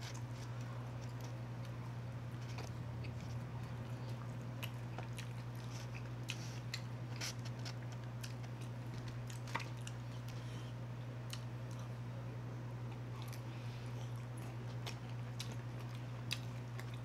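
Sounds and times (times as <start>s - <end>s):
chewing chicken wings: 0.0s - 10.6s, 11.2s - 12.0s, 12.8s - 17.0s
steady low hum: 0.0s - 17.0s.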